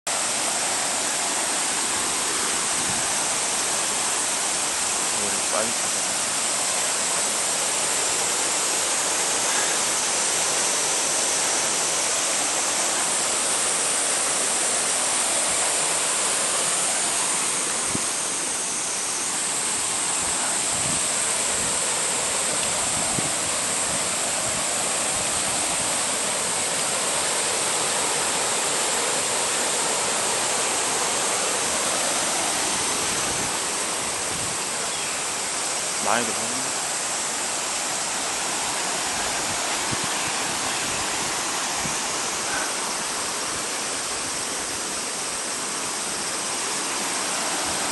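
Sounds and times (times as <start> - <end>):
stream water rushing: 0.1 - 47.9.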